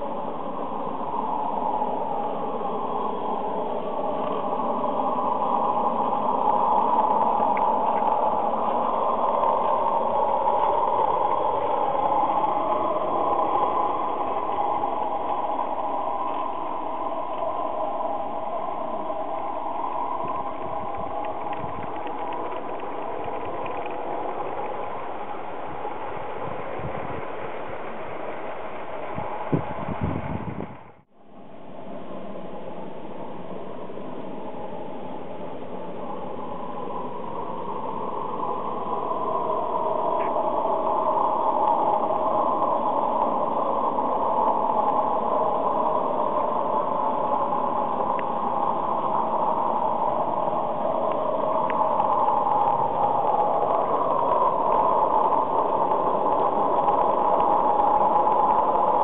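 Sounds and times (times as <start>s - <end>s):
model steam train hissing: 0.0s - 30.6s, 31.7s - 59.0s.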